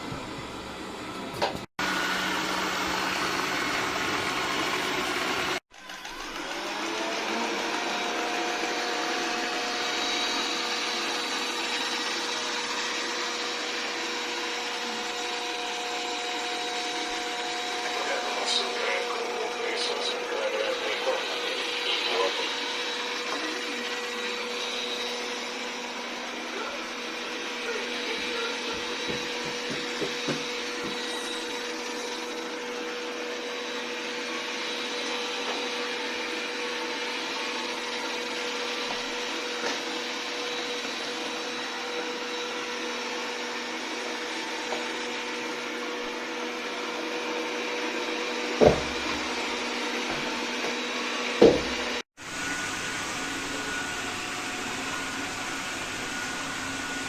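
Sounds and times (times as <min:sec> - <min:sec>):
robot vacuum cleaner whine: 0:00.0 - 0:57.0.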